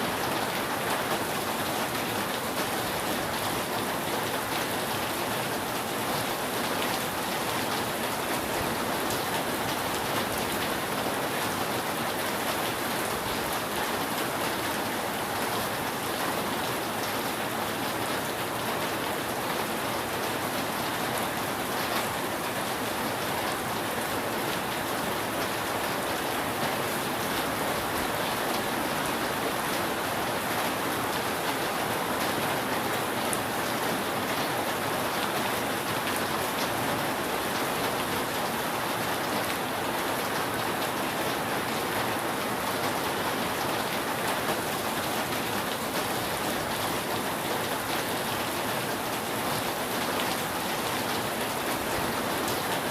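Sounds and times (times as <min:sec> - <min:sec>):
rain falling on a roof: 0:00.0 - 0:52.9.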